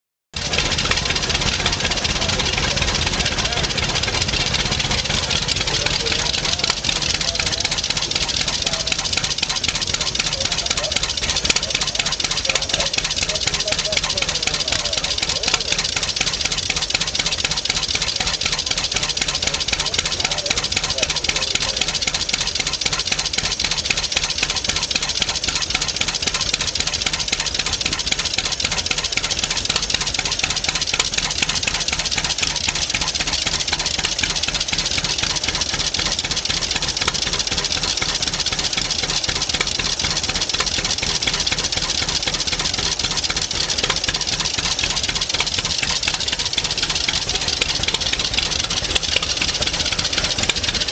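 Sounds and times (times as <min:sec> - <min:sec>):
tractor engine idling: 0:00.3 - 0:50.9.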